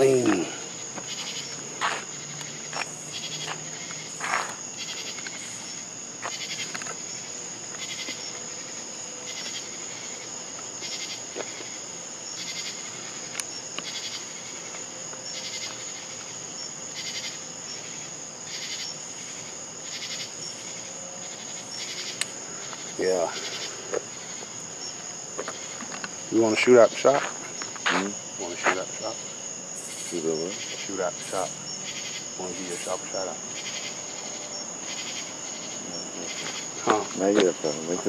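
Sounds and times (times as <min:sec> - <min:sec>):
high-pitched insect drone: 0:00.0 - 0:38.0
insects chirping: 0:00.0 - 0:38.0.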